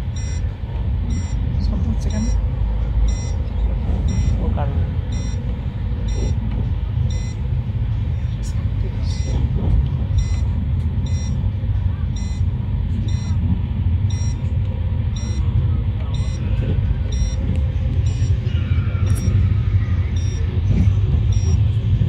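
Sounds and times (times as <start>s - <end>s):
train coach rumbling: 0.0s - 22.0s.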